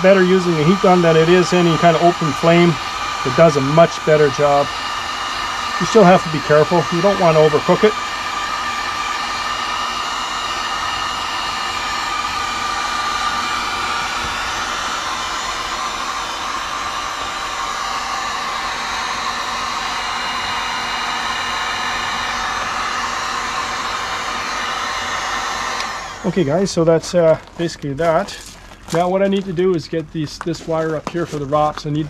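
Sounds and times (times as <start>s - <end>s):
heat gun blowing air: 0.0s - 32.0s.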